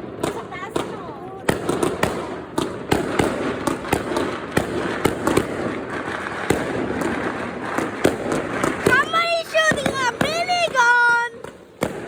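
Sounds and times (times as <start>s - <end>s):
crackle of distant explosions: 0.0s - 12.0s
firecrackers banging: 0.0s - 12.0s.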